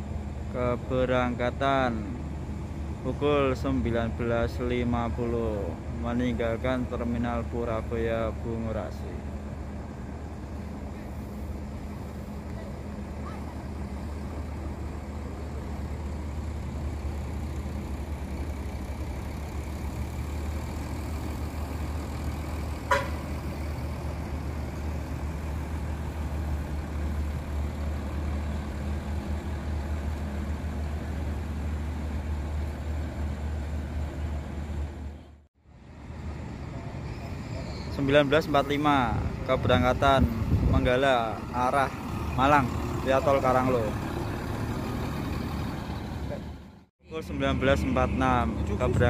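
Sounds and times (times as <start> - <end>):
bus diesel engine rumble: 0.0 - 49.0.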